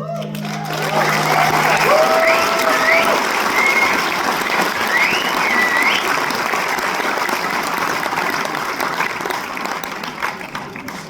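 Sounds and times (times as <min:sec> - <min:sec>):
high cheers: 0:00.0 - 0:09.6
audience applauding: 0:00.0 - 0:11.0.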